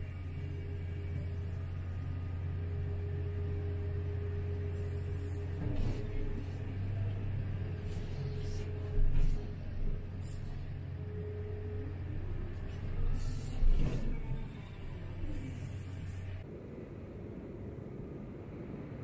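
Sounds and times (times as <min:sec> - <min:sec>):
excavator engine drone: 0:00.0 - 0:19.0
faint steady whine: 0:00.0 - 0:19.0.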